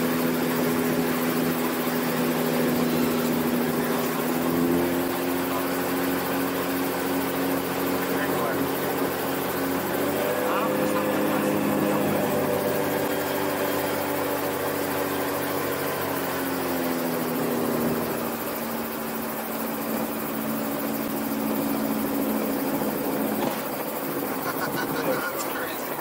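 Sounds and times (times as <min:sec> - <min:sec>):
gyroplane engine droning: 0:00.0 - 0:26.0.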